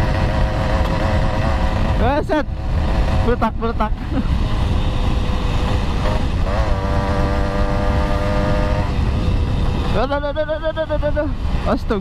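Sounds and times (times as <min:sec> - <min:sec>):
motorbike engine rumble: 0:00.0 - 0:12.0
wind rush: 0:00.0 - 0:12.0.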